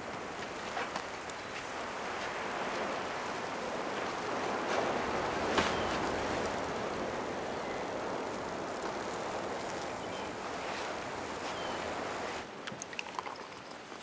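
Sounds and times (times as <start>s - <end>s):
wind and surf rushing: 0.0s - 12.6s.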